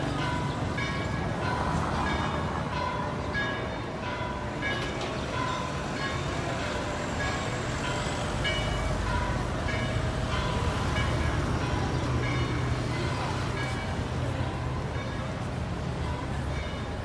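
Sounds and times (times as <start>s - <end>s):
traffic rumbling: 0.0s - 17.0s.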